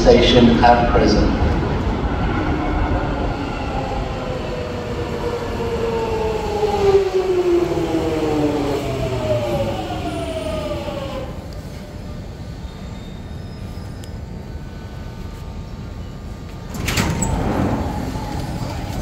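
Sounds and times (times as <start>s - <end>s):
train braking: 0.0s - 19.0s
traction motors whining: 1.4s - 19.0s.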